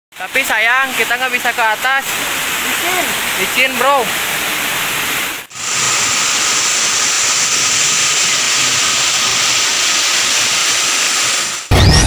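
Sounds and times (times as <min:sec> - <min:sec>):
waterfall rushing over rocks: 0:00.2 - 0:11.7.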